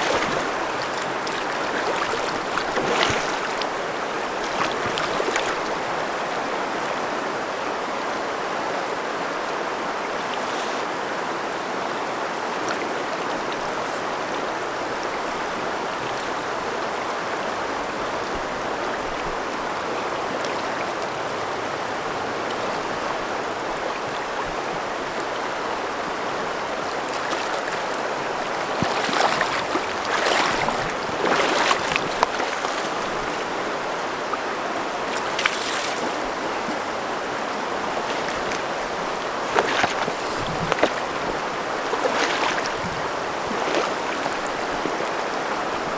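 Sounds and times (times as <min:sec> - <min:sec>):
river current rushing: 0:00.0 - 0:45.9.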